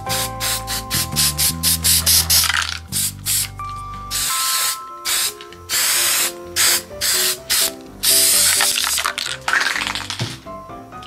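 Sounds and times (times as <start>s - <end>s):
aerosol spray can hissing: 0.0s - 3.5s, 4.1s - 9.8s
background music: 0.0s - 11.0s.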